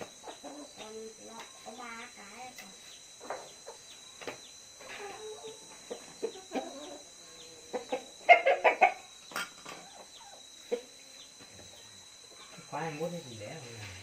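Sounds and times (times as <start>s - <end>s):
chickens clucking: 0.0s - 12.7s.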